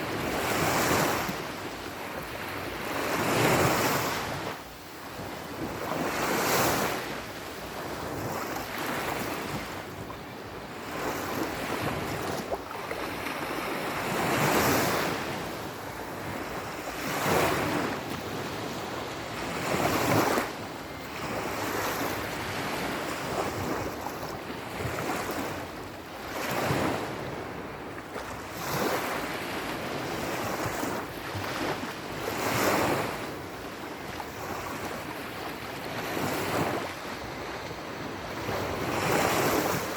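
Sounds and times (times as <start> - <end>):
waves breaking and washing in: 0.0 - 39.9.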